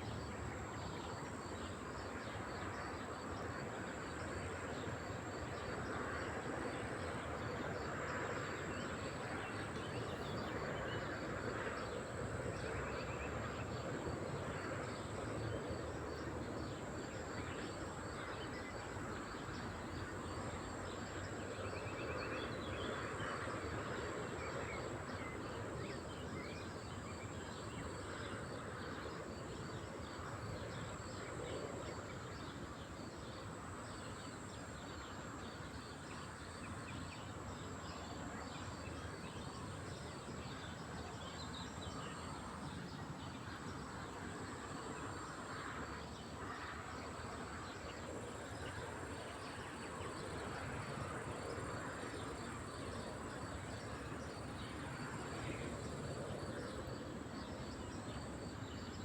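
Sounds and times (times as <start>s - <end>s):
low outdoor wash: 0.0s - 59.0s.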